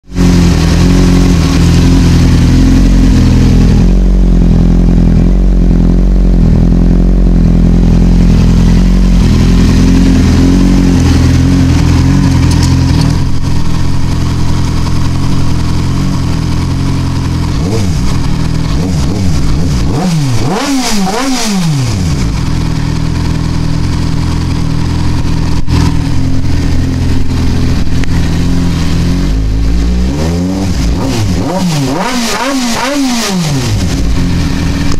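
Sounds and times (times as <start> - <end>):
engine throttle blips: 0.0 - 34.9
motorcycle engine idling: 0.0 - 34.9.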